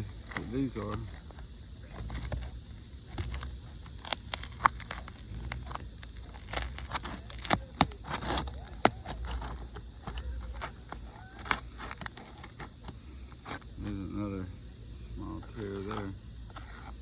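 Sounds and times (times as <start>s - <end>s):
shingles cracking and tearing: 0.0s - 13.6s.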